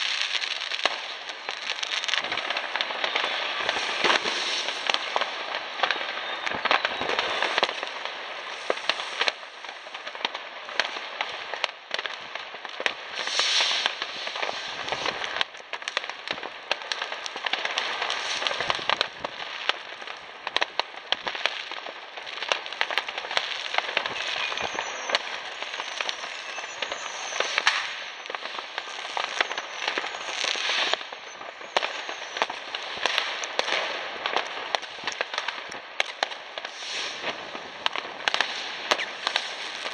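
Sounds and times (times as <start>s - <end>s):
firework whistles: 0.0s - 10.0s, 13.1s - 16.1s, 16.9s - 19.8s, 22.3s - 39.9s
fireworks crackling and banging: 0.0s - 39.9s.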